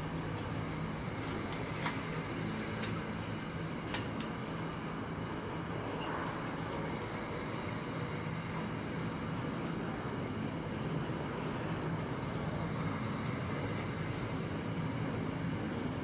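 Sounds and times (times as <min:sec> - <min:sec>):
freight train wheels on rails: 0:00.0 - 0:16.0.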